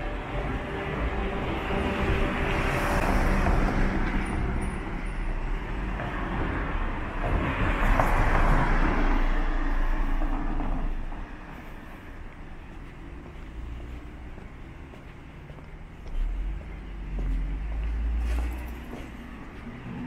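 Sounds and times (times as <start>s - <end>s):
motor vehicles passing: 0.0s - 20.0s.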